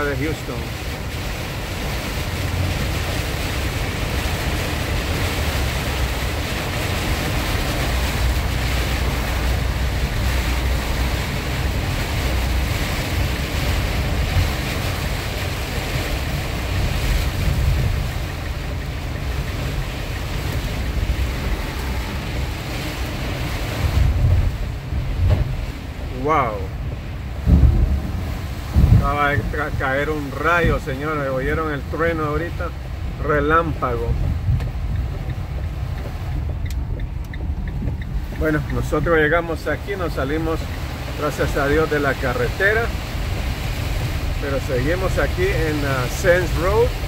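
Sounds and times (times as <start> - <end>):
tyre spray on wet road: 0.0 - 29.4, 34.1 - 47.0
heavy rain beating on car: 0.0 - 47.0
wind buffeting: 0.0 - 47.0.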